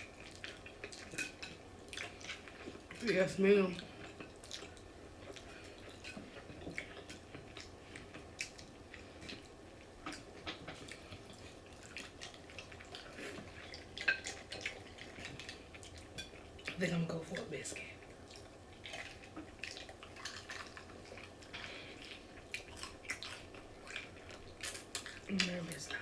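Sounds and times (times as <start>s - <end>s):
chewing crispy food: 0.0s - 26.0s.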